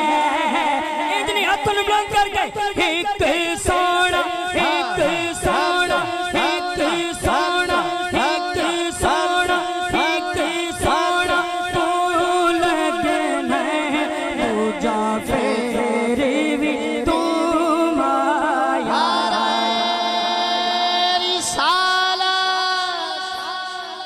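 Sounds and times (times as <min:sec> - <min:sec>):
devotional singing in long notes: 0:00.0 - 0:01.6, 0:02.7 - 0:24.0.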